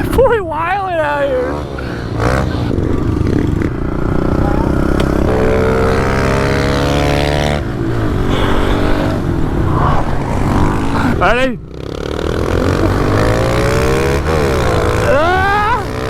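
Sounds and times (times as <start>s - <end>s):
pit bike engines running: 0.0s - 16.0s.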